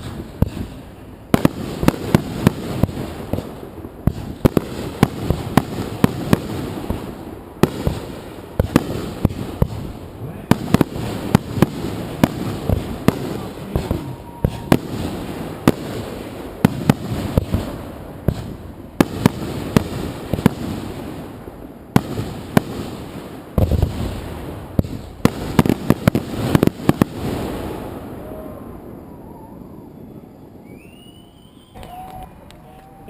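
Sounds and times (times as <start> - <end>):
fireworks crackle: 0.0 - 29.1, 30.0 - 33.0
fireworks bangs: 0.0 - 33.0.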